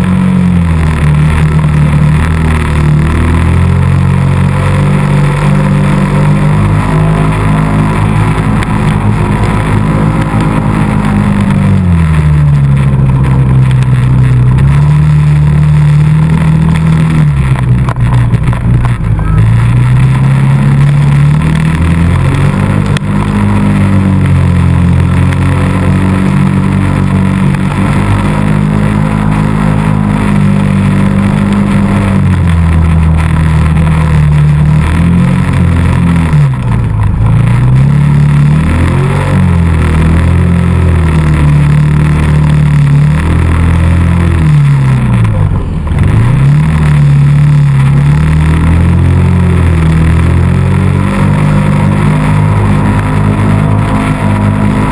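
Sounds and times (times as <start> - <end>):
atv engine revving: 0.0 - 54.9.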